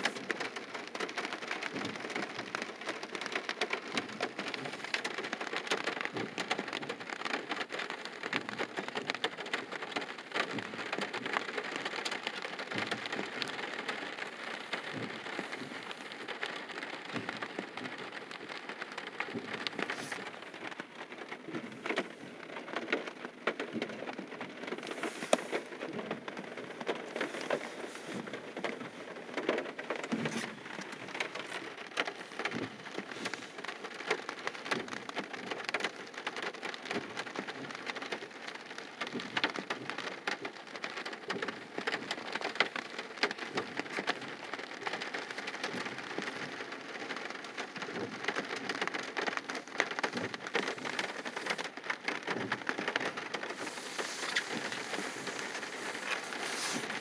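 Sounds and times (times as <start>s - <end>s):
rain on car roof: 0.0s - 57.0s.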